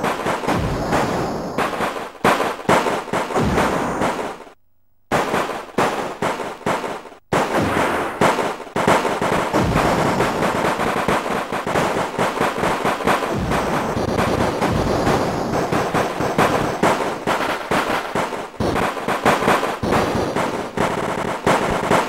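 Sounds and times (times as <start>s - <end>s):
gunshots: 0.0s - 22.0s
rapid machine-gun fire: 0.0s - 22.0s.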